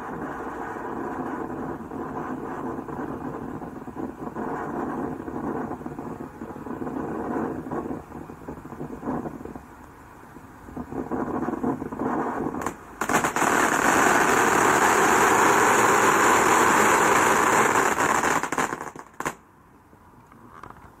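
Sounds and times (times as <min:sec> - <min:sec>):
firework fountain hissing and crackling: 0:00.0 - 0:19.6.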